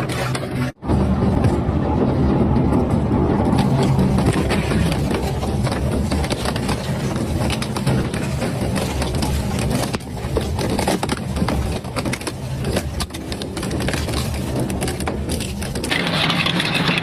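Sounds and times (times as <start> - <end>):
shredder crushing material: 0.0 - 17.0.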